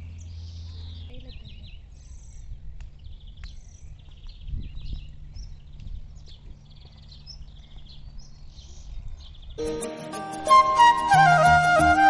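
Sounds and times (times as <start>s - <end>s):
birds chirping and trilling: 0.0s - 10.6s.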